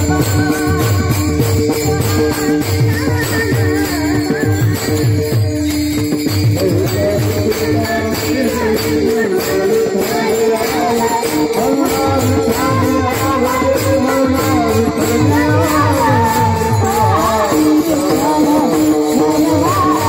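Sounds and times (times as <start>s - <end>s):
hand cymbals clashing: 0.0s - 20.0s
people singing: 0.0s - 20.0s.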